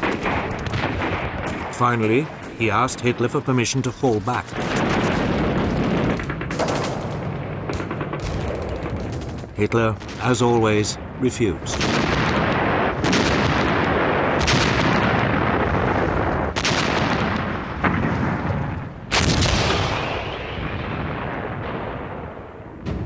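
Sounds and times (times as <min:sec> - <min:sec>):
artillery blasts with rumble: 0:00.0 - 0:23.0.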